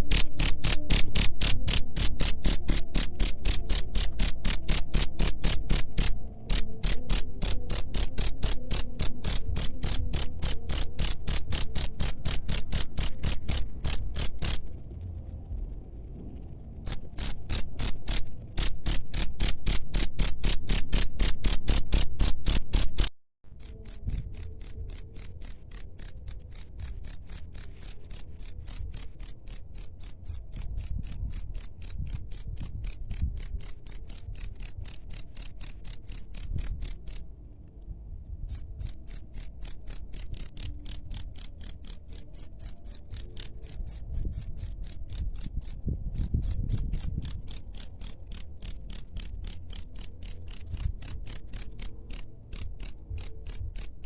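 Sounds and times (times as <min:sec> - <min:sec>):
cricket chirping: 0:00.0 - 0:54.0
faint low rumble: 0:00.0 - 0:54.0.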